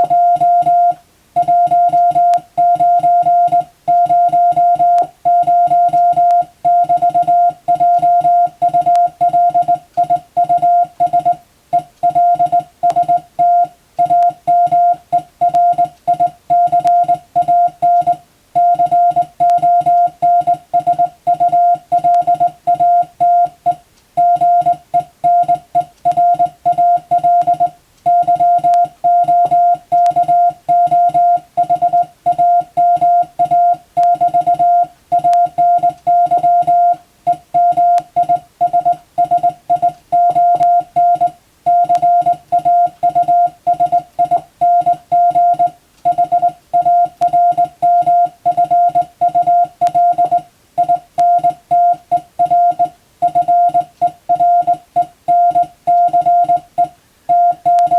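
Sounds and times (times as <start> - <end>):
morse code beeps: 0.0 - 57.9.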